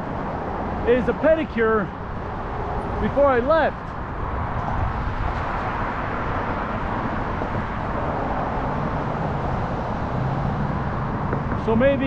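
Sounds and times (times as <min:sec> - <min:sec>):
steady road traffic: 0:00.0 - 0:12.0.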